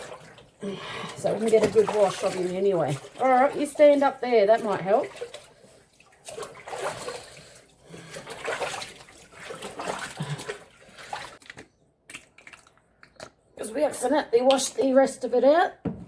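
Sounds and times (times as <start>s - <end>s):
bath water sloshing and splashing: 0.0s - 14.9s.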